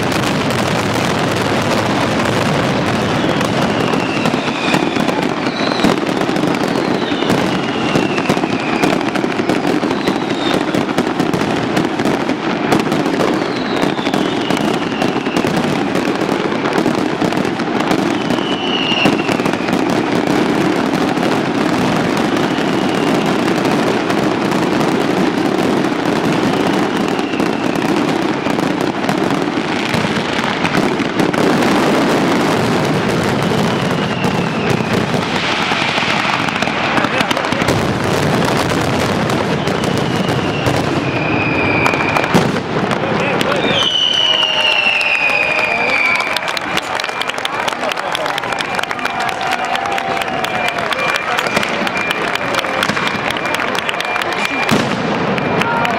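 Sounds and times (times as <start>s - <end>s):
firecracker bangs: 0.0s - 55.9s
whistling fireworks: 0.0s - 55.9s.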